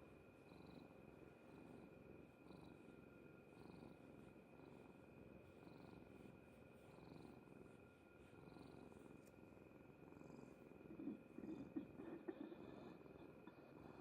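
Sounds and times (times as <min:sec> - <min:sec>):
cat purring: 0:00.4 - 0:14.0.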